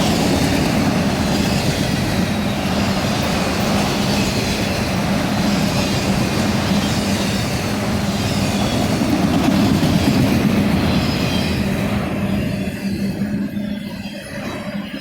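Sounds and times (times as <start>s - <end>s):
freight train wheels rumbling on rail: 0.0s - 15.0s
high rail noise: 0.0s - 15.0s.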